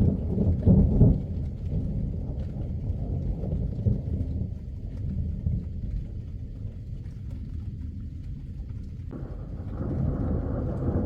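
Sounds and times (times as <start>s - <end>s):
low rolling thunder: 0.0s - 11.0s.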